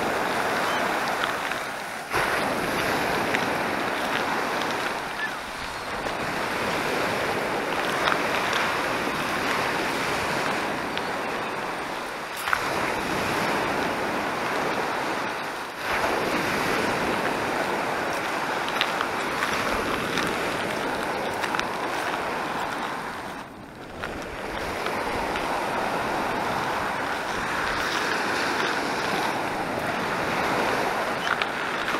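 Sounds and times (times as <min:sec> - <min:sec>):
surf washing up a sandy shore: 0:00.0 - 0:31.9.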